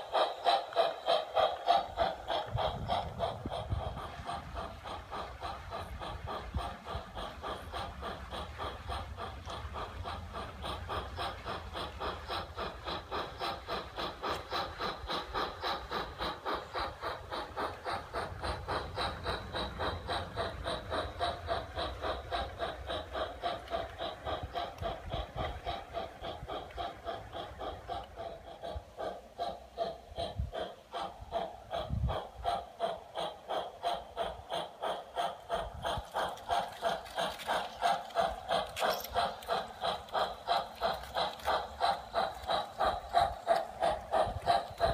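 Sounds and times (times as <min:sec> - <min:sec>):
model steam locomotive chuffing: 0:00.0 - 0:44.9.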